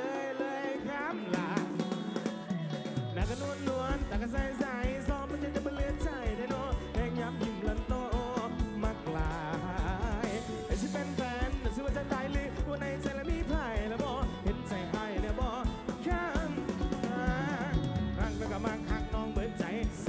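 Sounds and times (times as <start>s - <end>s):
drums: 0.0s - 20.0s
electric guitars: 0.0s - 20.0s
singer with vibrato vocals: 0.0s - 20.0s.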